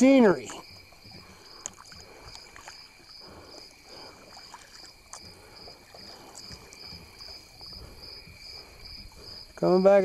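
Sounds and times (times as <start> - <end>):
high insect chirp: 0.0 - 10.0
paddle strokes swishing through water: 0.0 - 10.0.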